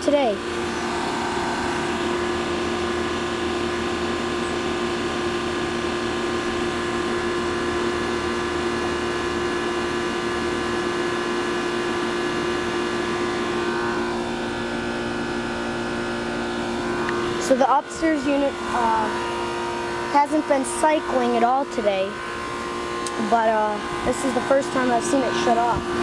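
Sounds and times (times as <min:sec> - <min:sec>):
air conditioner unit humming: 0:00.0 - 0:26.0.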